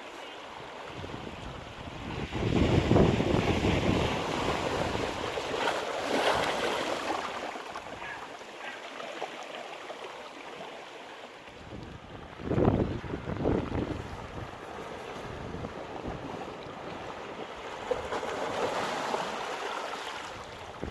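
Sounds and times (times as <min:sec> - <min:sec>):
sea waves breaking on shore: 0:00.0 - 0:20.9.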